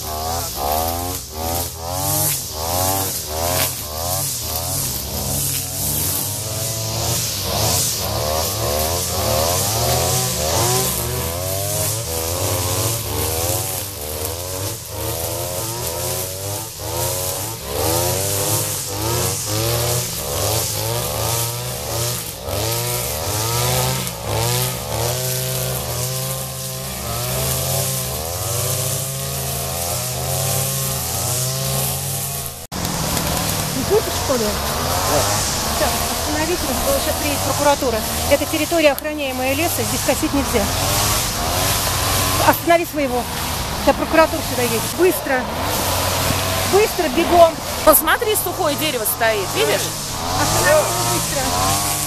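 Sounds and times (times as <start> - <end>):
brush cutter engines revving: 0.0 - 52.0.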